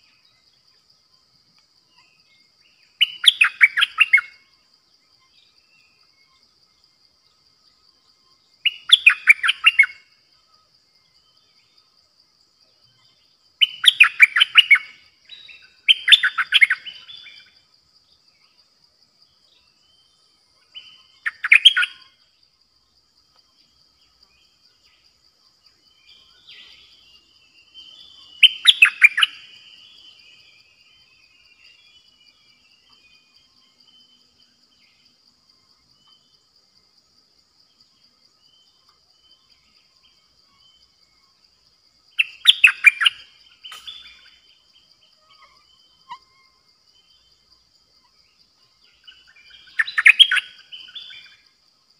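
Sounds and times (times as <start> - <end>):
high insect buzz: 0.0 - 51.9.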